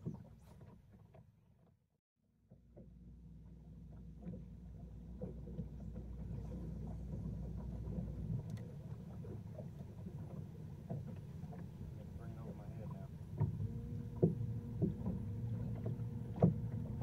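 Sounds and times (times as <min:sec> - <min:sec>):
water lapping against boat: 0:00.0 - 0:01.8, 0:02.4 - 0:17.0.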